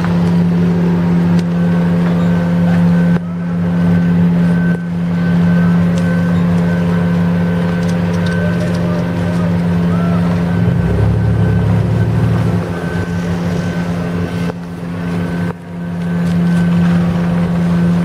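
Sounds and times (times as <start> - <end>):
construction machinery engines: 0.0 - 18.0.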